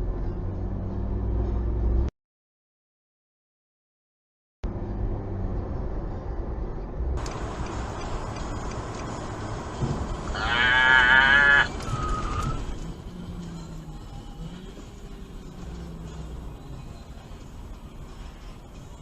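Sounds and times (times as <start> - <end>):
road and engine noise: 0.0 - 2.1, 4.6 - 19.0.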